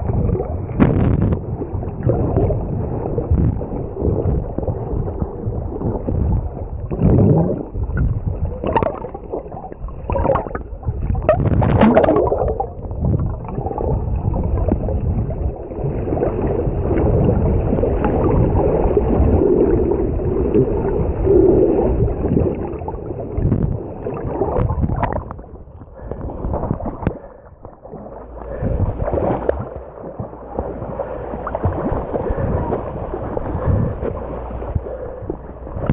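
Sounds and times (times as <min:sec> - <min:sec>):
muffled sea water gurgling: 0:00.0 - 0:35.9.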